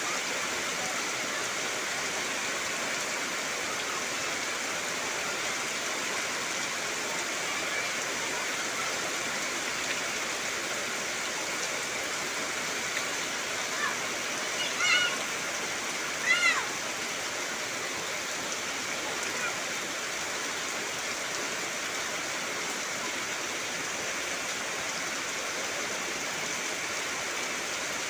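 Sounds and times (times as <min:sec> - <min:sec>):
heavy rain on trees: 0:00.0 - 0:28.0.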